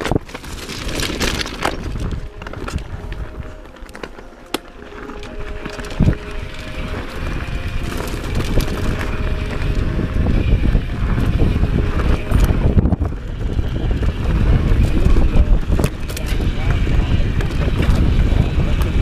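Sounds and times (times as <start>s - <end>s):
wind buffeting microphone: 0.0s - 3.8s, 5.0s - 19.0s
bike rattling over rocks: 0.0s - 19.0s.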